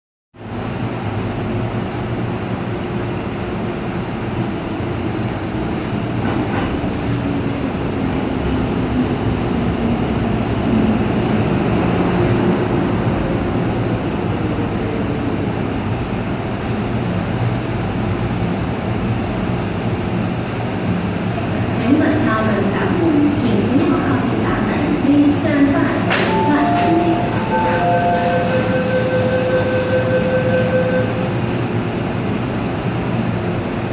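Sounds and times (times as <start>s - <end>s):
train standing humming: 0.4s - 33.9s.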